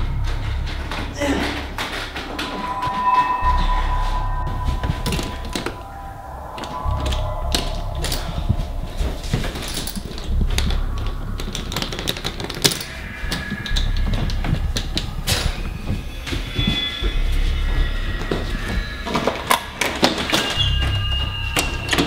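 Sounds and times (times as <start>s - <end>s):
steady low rumble: 0.0s - 21.8s.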